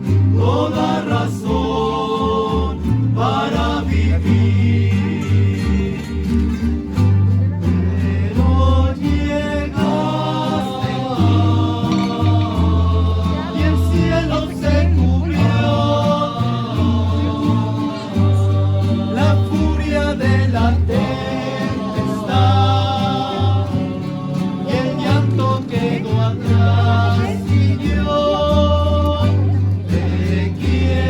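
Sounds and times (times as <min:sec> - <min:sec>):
group singing: 0:00.0 - 0:31.0
plucked bass line: 0:00.0 - 0:31.0
strummed guitars: 0:00.0 - 0:31.0.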